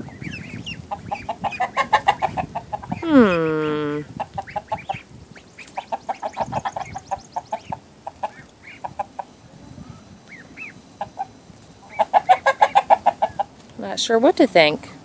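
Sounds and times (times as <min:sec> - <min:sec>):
chickens clucking: 0:00.0 - 0:13.6.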